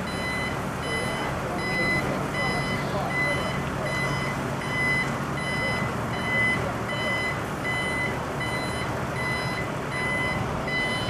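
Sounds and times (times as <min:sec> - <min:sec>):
diesel engine rumble: 0:00.0 - 0:11.0
lorry warning beeper: 0:00.0 - 0:11.0.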